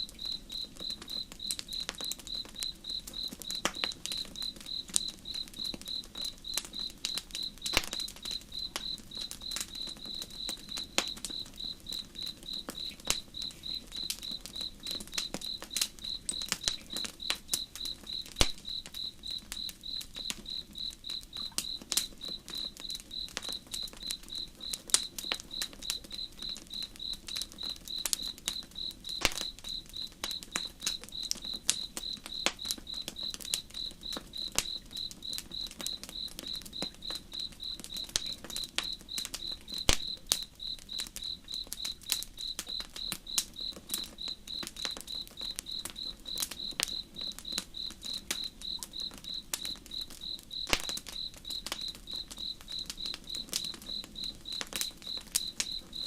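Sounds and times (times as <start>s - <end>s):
campfire crackling: 0.0s - 56.0s
cricket chirping: 0.0s - 56.0s.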